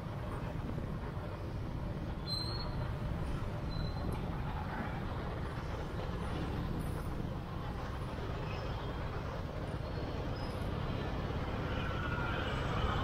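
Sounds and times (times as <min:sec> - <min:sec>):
road noise: 0:00.0 - 0:13.0
vehicle rumbling along road: 0:00.0 - 0:13.0
wind: 0:00.0 - 0:13.0.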